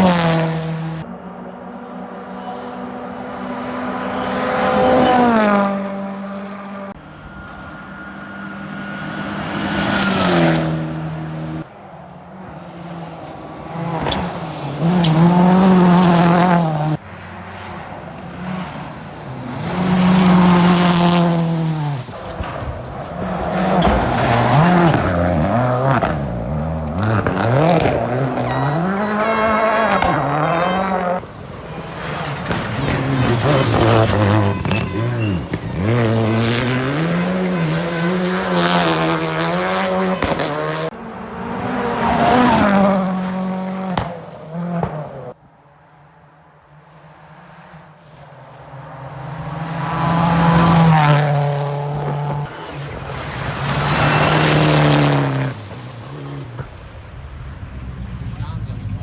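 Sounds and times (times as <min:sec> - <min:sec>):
rally cars passing at full throttle: 0:00.0 - 0:59.0.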